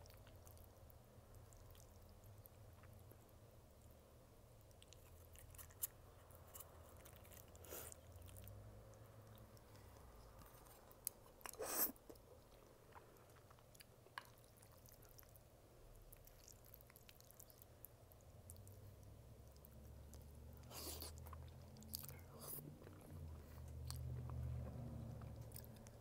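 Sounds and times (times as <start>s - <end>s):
wet chewing: 0.0s - 3.3s, 4.6s - 26.0s.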